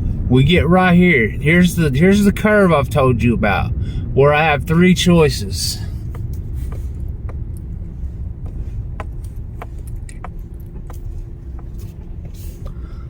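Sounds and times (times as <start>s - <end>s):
car engine and road rumble: 0.0s - 13.0s
faint steady hum: 0.0s - 13.0s.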